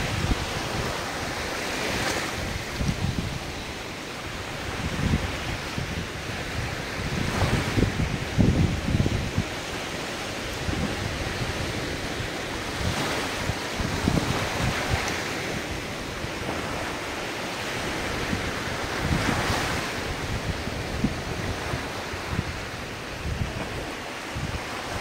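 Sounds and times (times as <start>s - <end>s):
ocean surf washing in: 0.0s - 25.0s
wind buffeting microphone: 0.0s - 25.0s.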